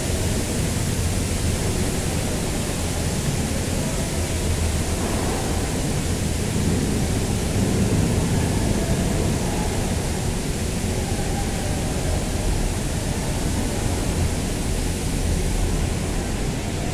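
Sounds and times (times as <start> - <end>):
air and machinery roaring in tunnel: 0.0 - 16.9.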